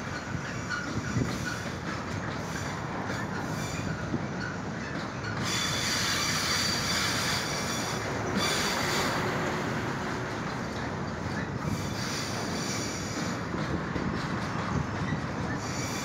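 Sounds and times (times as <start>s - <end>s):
train wheels rumbling on rails: 0.0s - 16.0s
wheels squealing on rail: 0.0s - 16.0s.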